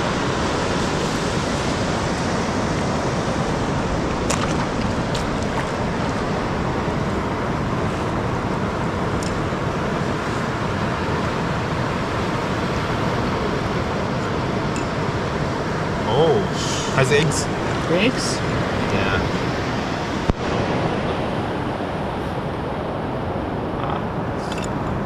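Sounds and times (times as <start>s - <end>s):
ocean surf: 0.0s - 25.0s
wind over microphone: 0.0s - 25.0s.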